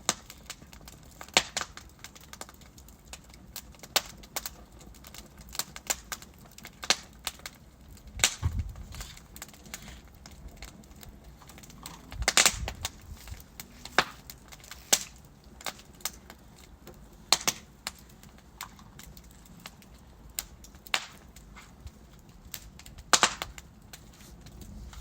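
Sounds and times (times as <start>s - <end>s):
fireplace logs crackling and popping: 0.0s - 25.0s.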